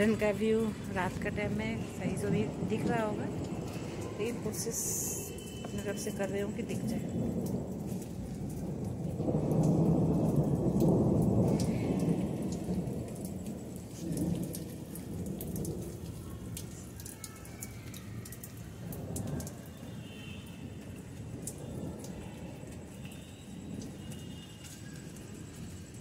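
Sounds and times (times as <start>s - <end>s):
thunder rumble: 0.0s - 17.1s, 18.2s - 26.0s
rain falling on plants: 0.0s - 26.0s.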